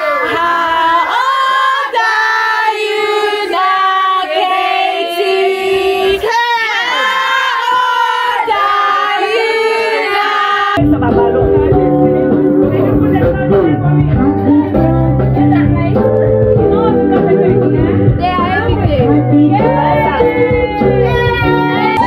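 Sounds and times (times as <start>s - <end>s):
women and children singing: 0.0s - 10.8s, 14.7s - 22.0s.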